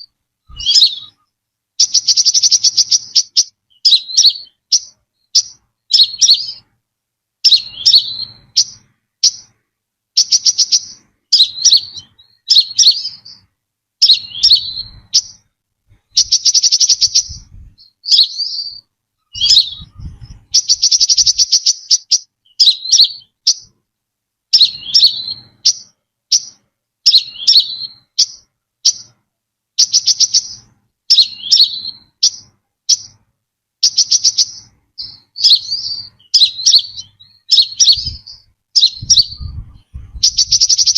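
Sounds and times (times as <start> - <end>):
sunbird chirping and trilling: 0.0 - 6.8, 7.4 - 23.8, 24.5 - 29.2, 29.8 - 33.2, 33.8 - 40.9.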